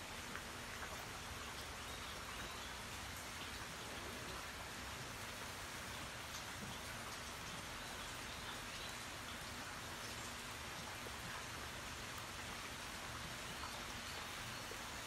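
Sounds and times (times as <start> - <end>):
steady rain on trees: 0.0 - 15.0.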